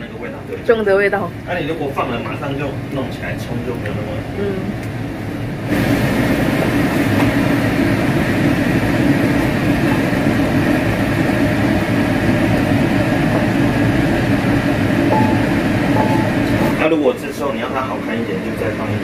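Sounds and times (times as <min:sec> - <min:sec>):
extractor fan whirring: 0:00.0 - 0:19.0.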